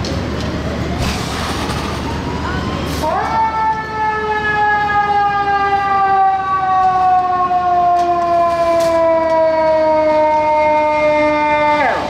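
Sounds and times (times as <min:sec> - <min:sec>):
fire truck siren sliding down: 0:00.3 - 0:12.0.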